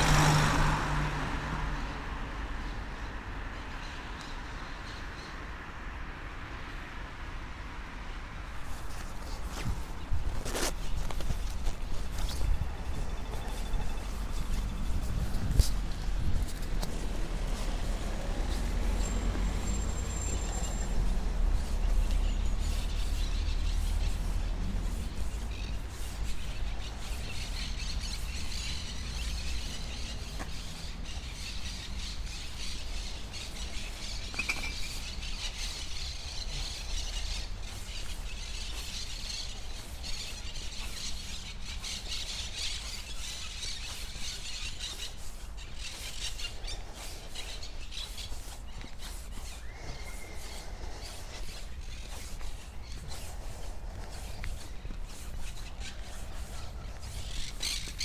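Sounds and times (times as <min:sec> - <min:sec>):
birds chirping: 0:08.6 - 0:58.0.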